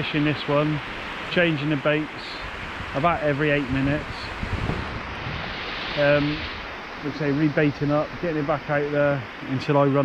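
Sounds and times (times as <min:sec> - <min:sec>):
surf rushing: 0:00.0 - 0:10.0
wind blowing on microphone: 0:00.0 - 0:10.0.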